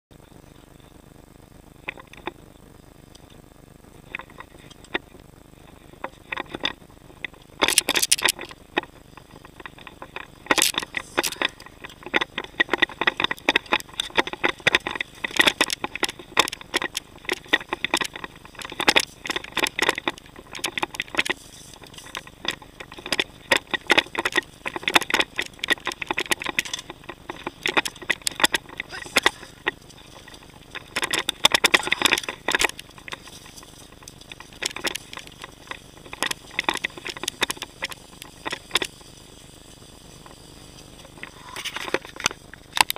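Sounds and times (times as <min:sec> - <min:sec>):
bike rattling over gravel track: 0:04.0 - 0:42.9.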